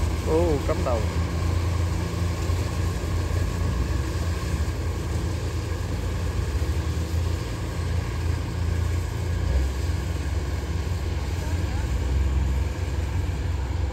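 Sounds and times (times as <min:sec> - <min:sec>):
diesel engine running under load: 0:00.0 - 0:13.9.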